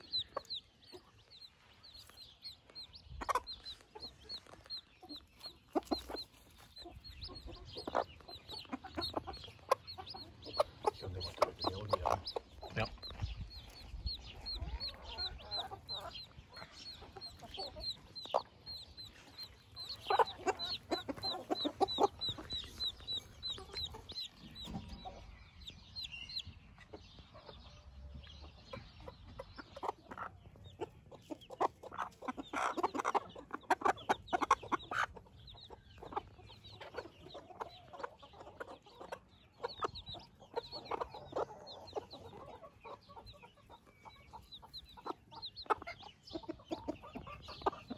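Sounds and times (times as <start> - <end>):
chicks peeping: 0.0 - 47.9
hen clucking: 0.0 - 47.9.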